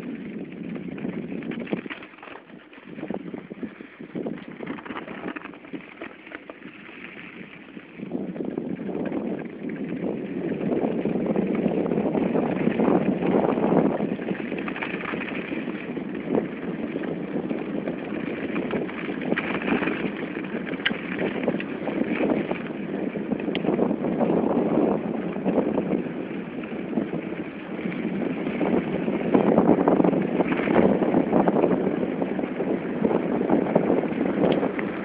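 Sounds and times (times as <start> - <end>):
wind on microphone: 0.0 - 35.0.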